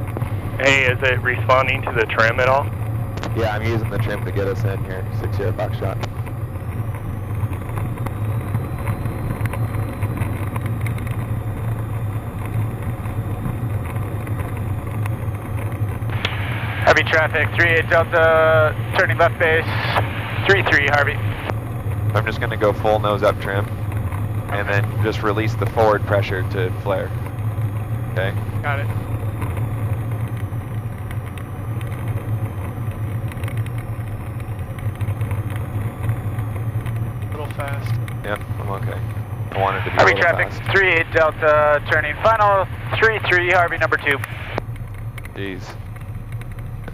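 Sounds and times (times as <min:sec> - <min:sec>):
aircraft engine droning: 0:00.0 - 0:46.9.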